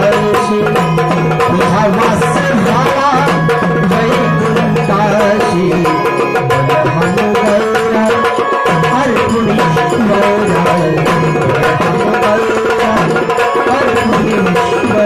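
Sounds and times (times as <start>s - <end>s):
drum beaten with sticks: 0.0s - 15.0s
melodic line: 0.0s - 15.0s.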